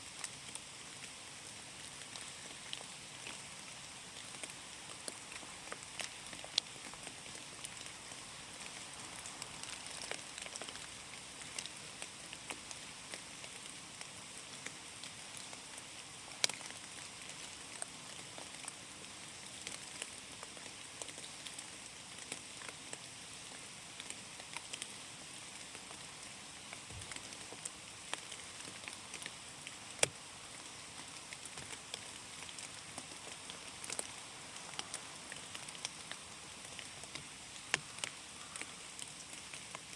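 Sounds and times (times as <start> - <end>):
drops ticking on leaves: 2.0 - 8.0, 8.6 - 39.9.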